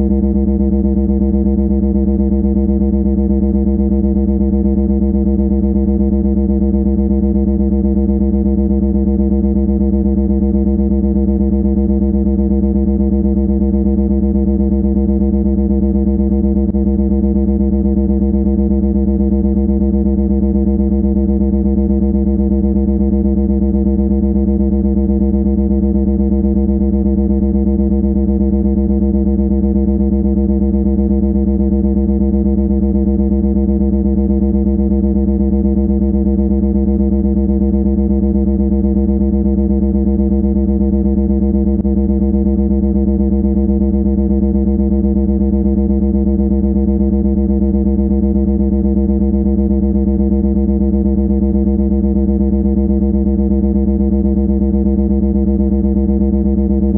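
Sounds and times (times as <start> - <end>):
low buzzing drone: 0.0 - 54.6.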